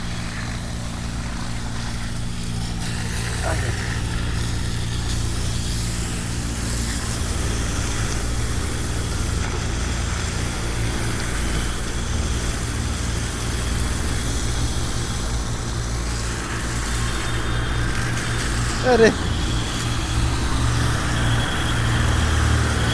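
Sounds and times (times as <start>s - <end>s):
pressure washer spraying water: 0.0s - 22.9s.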